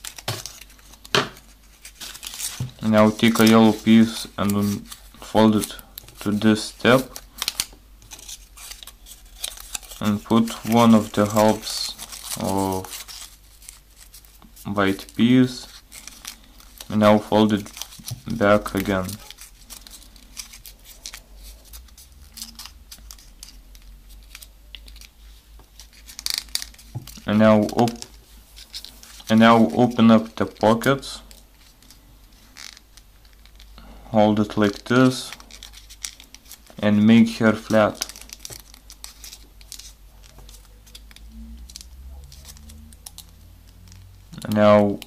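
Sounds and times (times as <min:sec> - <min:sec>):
paper crinkling and creasing: 0:00.0 - 0:45.0
steady low hum: 0:00.6 - 0:45.0.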